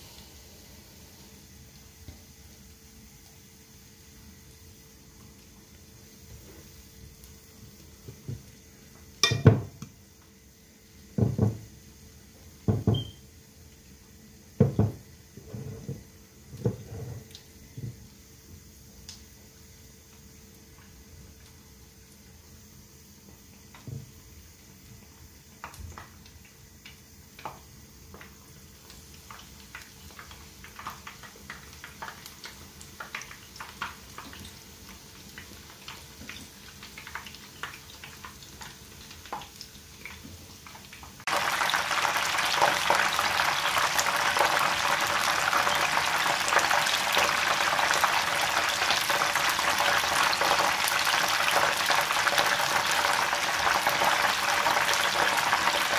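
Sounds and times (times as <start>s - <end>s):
fish frying in hot oil: 0.0s - 55.9s.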